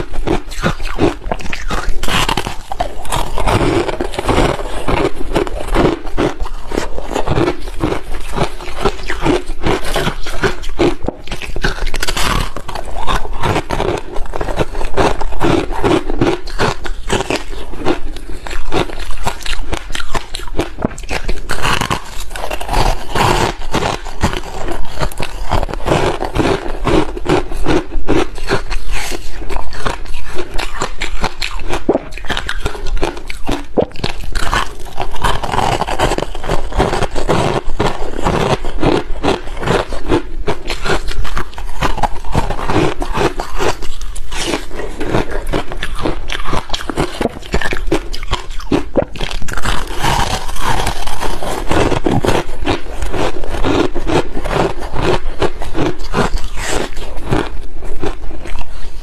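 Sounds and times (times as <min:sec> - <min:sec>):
crunchy ice being chewed: 0:00.0 - 0:59.0.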